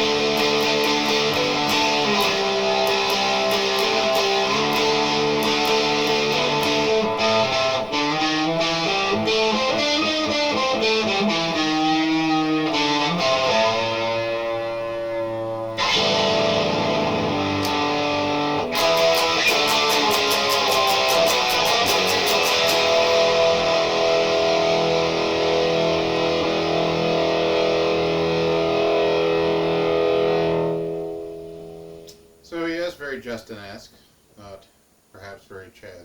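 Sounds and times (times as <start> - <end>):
distorted electric guitar: 0.0 - 32.4.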